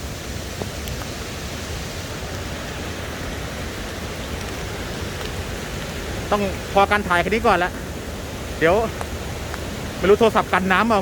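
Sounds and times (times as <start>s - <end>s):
steady rain hissing: 0.0s - 11.0s.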